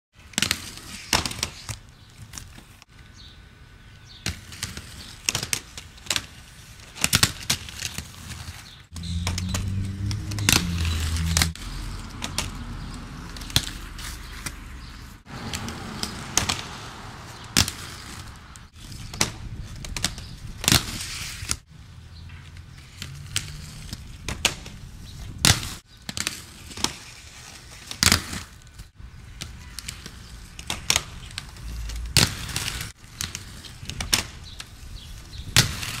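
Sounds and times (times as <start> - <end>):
skates grinding rail: 0.2 - 2.9, 4.2 - 21.7, 22.3 - 36.0
wheels rolling on pavement: 0.2 - 36.0.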